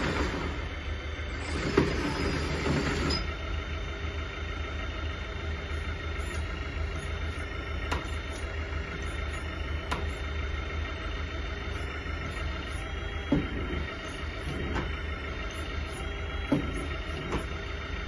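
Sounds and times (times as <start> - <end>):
model crawler loader humming: 0.0 - 18.0.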